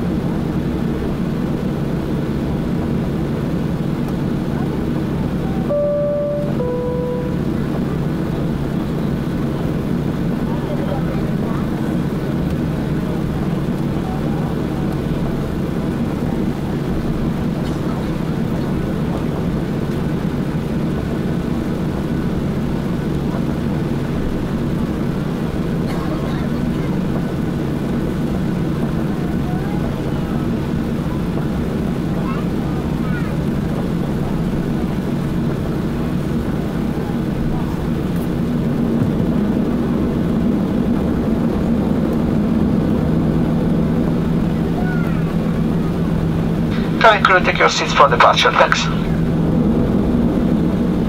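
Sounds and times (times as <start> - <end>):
aircraft cabin engine drone: 0.0 - 51.0.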